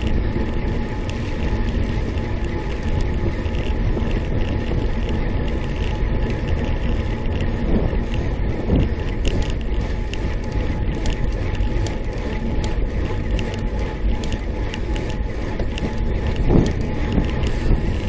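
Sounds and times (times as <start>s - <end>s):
bicycle clicks and rattles: 0.0s - 18.0s
bicycle tyres rumbling on road: 0.0s - 18.0s.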